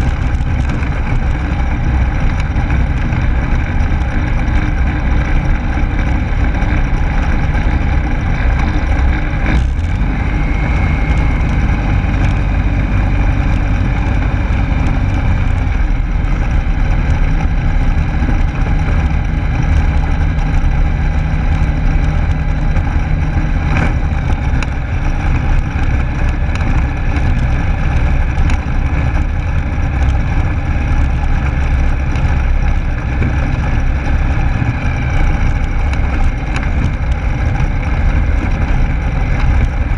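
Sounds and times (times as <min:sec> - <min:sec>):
aircraft engine running: 0:00.0 - 0:39.9
wind rush on microphone: 0:00.0 - 0:39.9.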